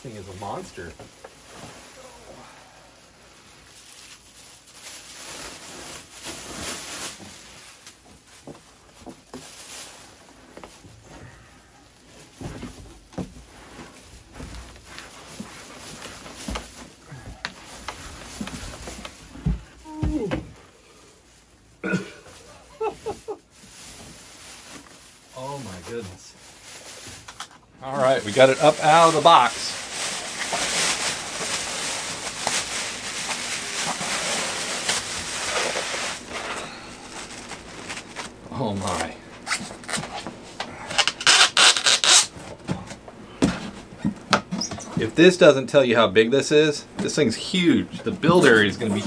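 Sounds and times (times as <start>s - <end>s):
plastic bag rustling: 0.0s - 49.0s.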